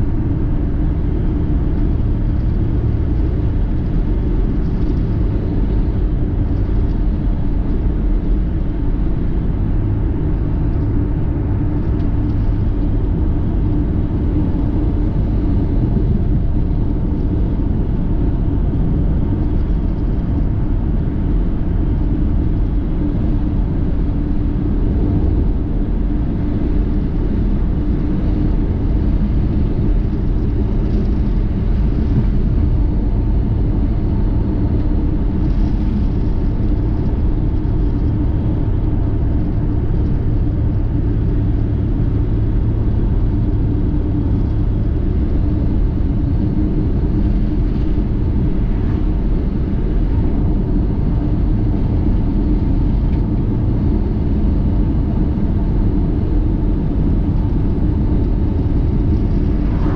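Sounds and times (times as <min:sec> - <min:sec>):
car driving rumble: 0:00.0 - 0:59.9
faint steady hum: 0:00.0 - 0:59.9.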